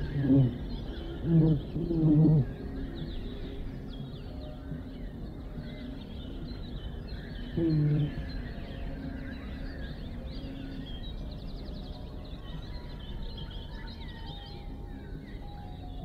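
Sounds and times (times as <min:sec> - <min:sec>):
small birds twittering: 0:00.0 - 0:16.0.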